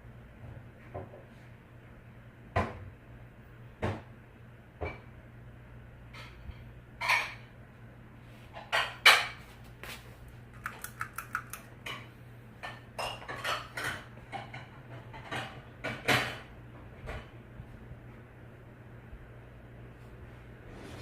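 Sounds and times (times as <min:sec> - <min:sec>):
ceiling fan motor humming: 0:00.0 - 0:21.0.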